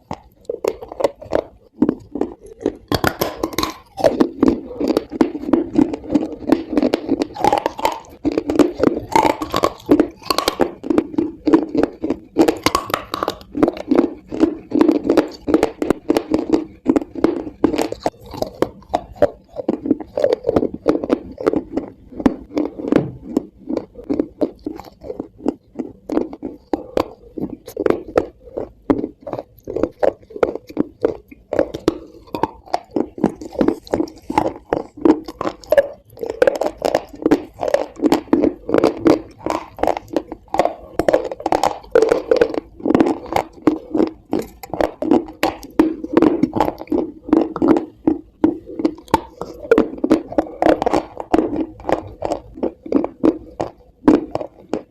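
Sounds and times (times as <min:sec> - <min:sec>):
chewing crunchy food: 0:00.0 - 0:54.9.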